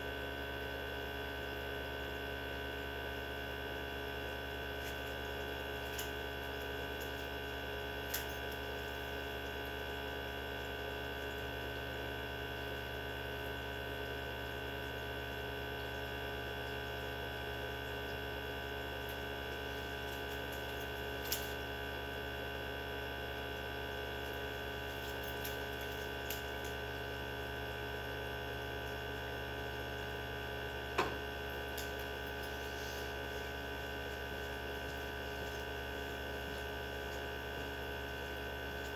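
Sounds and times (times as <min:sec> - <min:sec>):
centrifuge motor hum and whine: 0:00.0 - 0:38.9.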